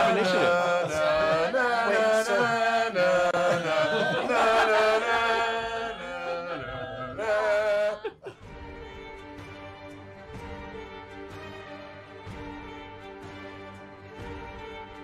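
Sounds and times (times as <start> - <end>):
music with chanting vocals: 0.0 - 15.0.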